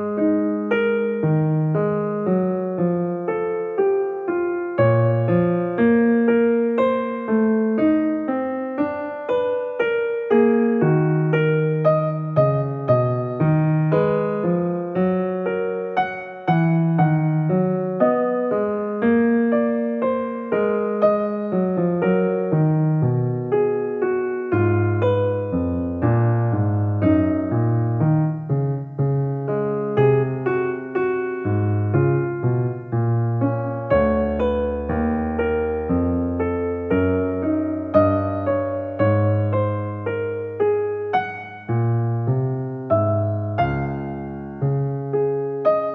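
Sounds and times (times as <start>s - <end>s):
slow piano music: 0.0s - 45.9s.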